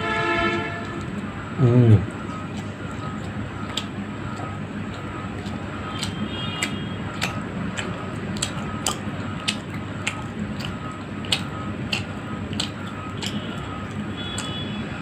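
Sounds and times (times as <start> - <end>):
low background hum: 0.0 - 15.0
chewing with lip smacks: 0.8 - 15.0.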